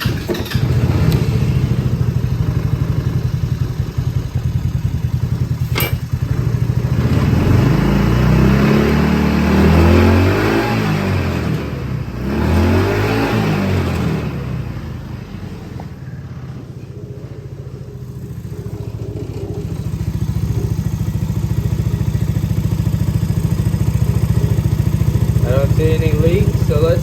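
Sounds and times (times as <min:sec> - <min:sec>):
engine revving and idling: 0:00.0 - 0:27.0.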